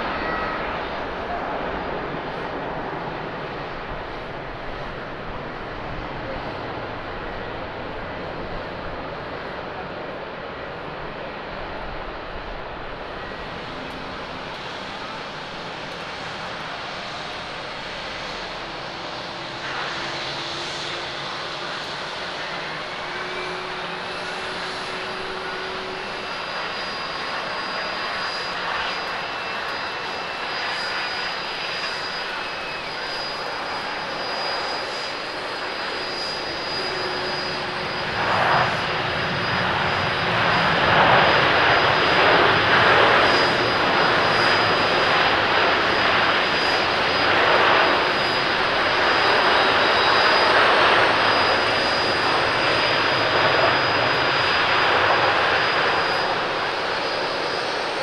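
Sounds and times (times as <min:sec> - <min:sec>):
jet engines reverse thrust roar: 0:00.0 - 0:58.0.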